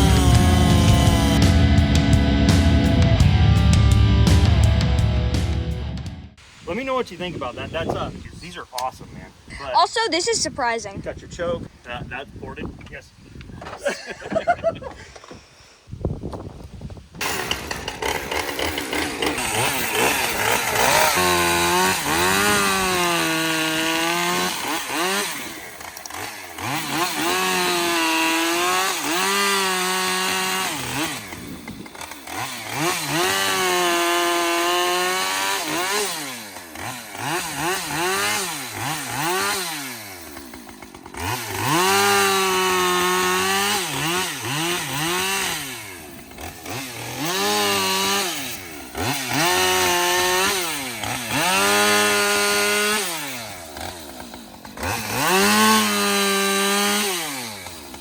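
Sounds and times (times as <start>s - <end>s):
chainsaw revving: 0.0s - 5.4s, 9.5s - 10.8s, 17.2s - 58.0s.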